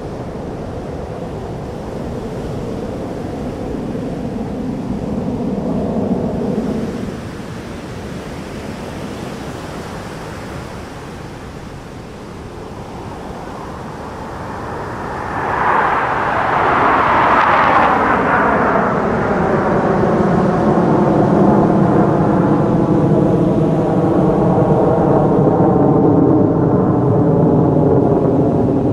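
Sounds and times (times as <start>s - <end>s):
fighter jet engine roar: 0.0s - 28.9s.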